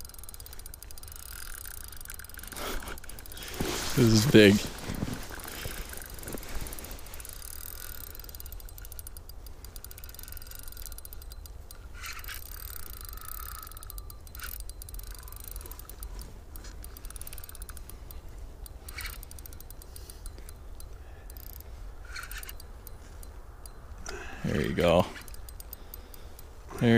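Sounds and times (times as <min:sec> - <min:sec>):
fishing reel clicking and whirring: 0:00.0 - 0:26.9.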